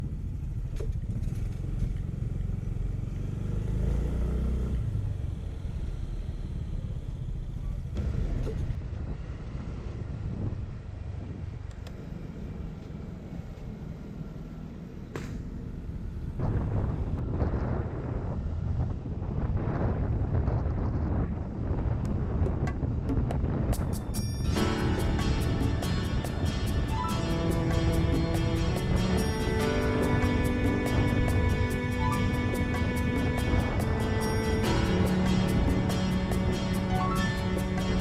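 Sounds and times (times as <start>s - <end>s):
scooter engine rumble: 0.0s - 3.6s, 4.8s - 38.0s
road and wind noise: 0.0s - 38.0s.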